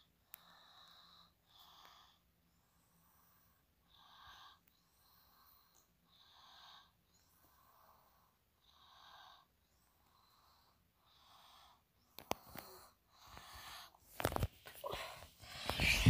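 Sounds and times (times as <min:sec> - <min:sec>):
person breathing faintly: 0:00.2 - 0:16.0.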